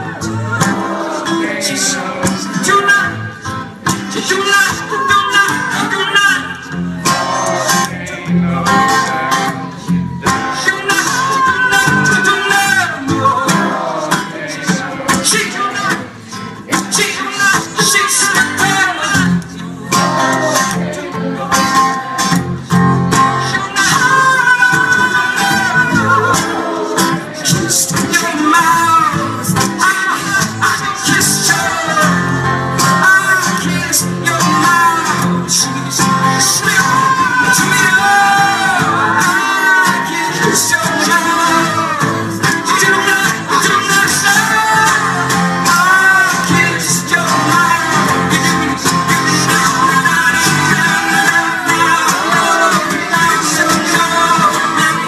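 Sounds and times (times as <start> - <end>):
acoustic guitar strumming: 0.0 - 55.0
person singing: 4.0 - 55.0.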